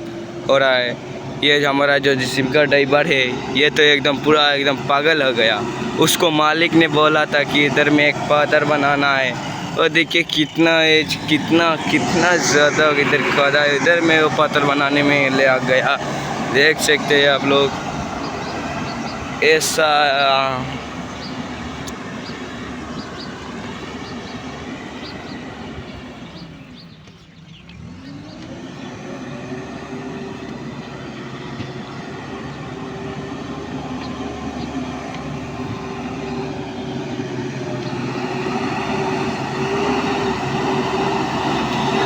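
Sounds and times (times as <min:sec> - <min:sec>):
backhoe diesel engine running: 0:00.0 - 0:42.0.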